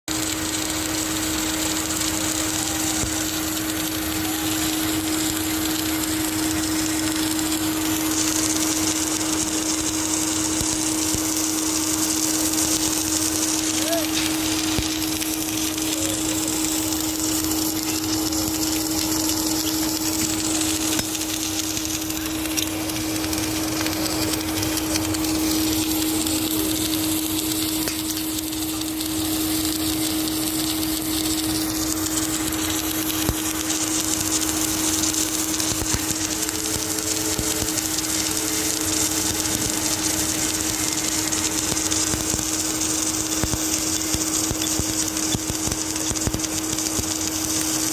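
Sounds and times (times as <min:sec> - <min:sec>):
welding machine electrical hum: 0:00.0 - 0:47.9
welding hiss: 0:00.1 - 0:47.9.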